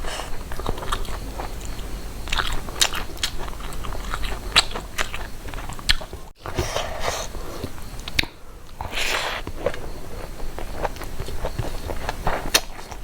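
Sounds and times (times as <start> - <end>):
chewing and biting food: 0.0 - 13.0.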